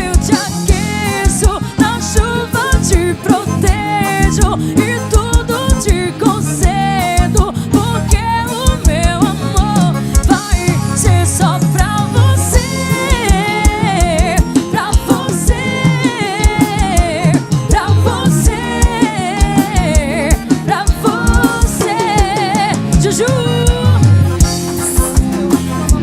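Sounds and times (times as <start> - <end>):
bass: 0.0 - 26.0
melodic lead line with vibrato: 0.0 - 26.0
steady drum beat: 0.0 - 26.0.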